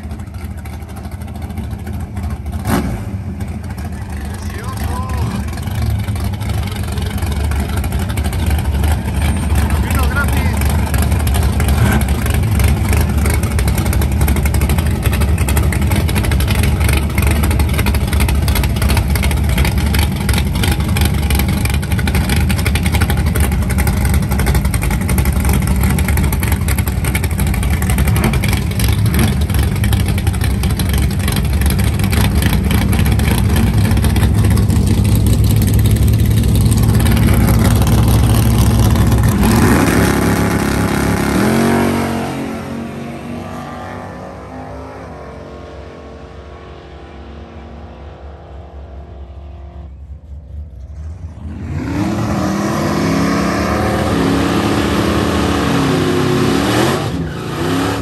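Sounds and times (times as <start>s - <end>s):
drag car engine idling and revving: 0.0s - 58.0s.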